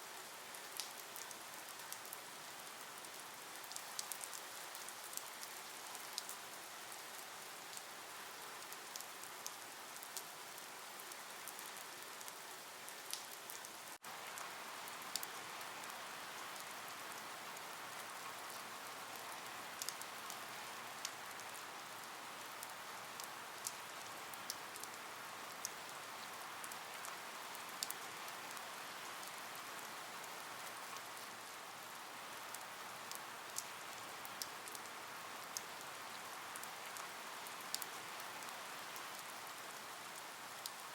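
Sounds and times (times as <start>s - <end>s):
rain hissing on a surface: 0.0s - 40.9s.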